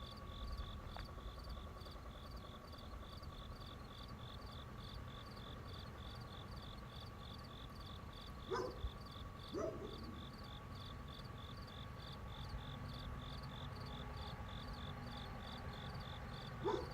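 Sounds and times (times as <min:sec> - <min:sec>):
cricket chirping: 0:00.0 - 0:16.9
faint hum: 0:00.0 - 0:16.9
low whirr: 0:00.0 - 0:16.9.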